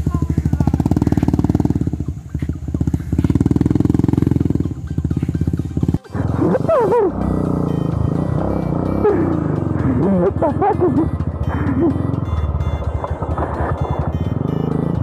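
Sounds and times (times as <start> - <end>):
motorcycle engine running: 0.0 - 15.0
wavering gliding pitched sound: 0.0 - 15.0.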